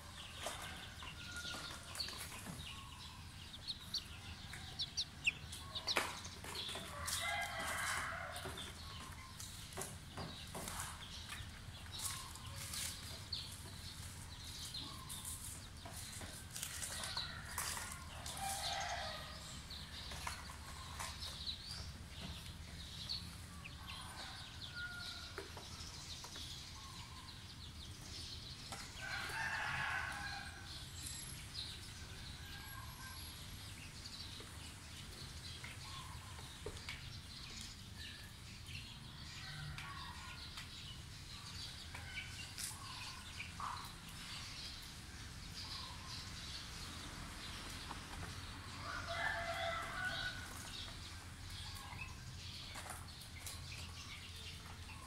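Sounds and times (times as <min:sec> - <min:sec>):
chicks peeping: 0:00.0 - 0:30.8, 0:31.7 - 0:55.0.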